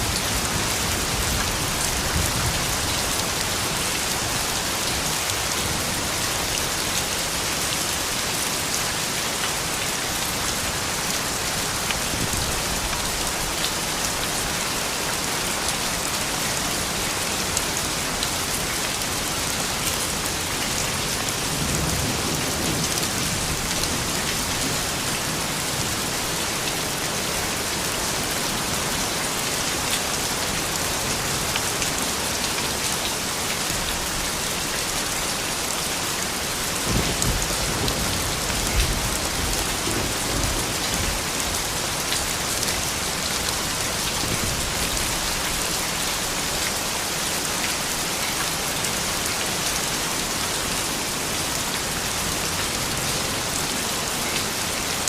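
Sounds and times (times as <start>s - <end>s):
raindrops ticking on surfaces: 0.0s - 55.0s
steady rain hiss: 0.0s - 55.0s.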